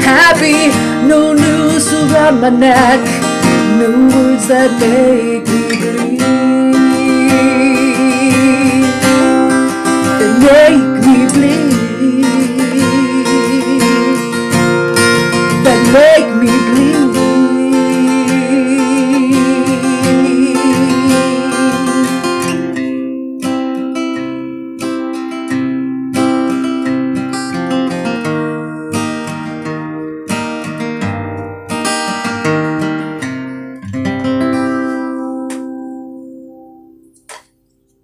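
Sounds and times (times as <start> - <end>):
acoustic guitar strummed chords: 0.0 - 38.0.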